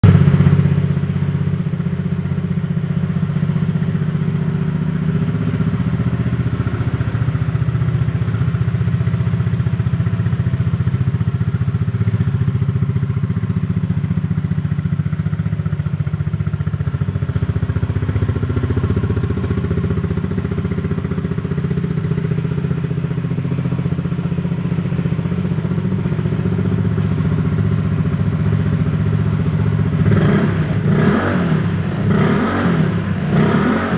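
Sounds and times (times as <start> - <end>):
scooter engine idling: 0.0 - 33.8.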